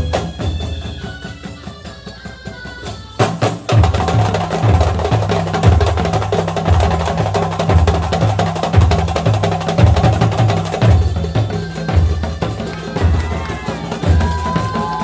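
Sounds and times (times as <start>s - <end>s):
frame drums fast rhythm: 0.0s - 15.0s.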